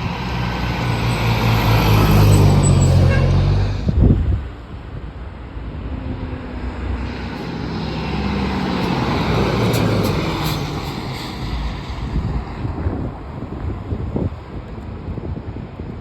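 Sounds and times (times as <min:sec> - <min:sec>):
fire truck diesel engine driving past: 0:00.0 - 0:04.1, 0:05.4 - 0:14.6.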